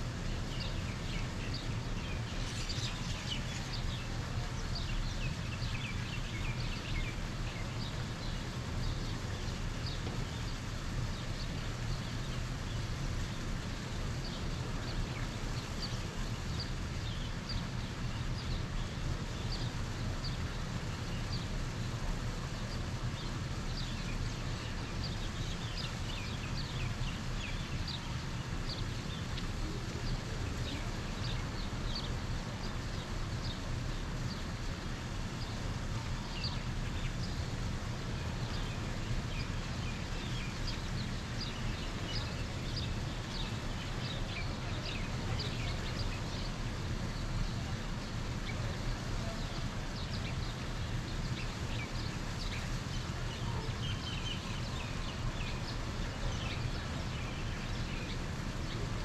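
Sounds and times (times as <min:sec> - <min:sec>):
birds chirping: 0:00.1 - 0:58.8.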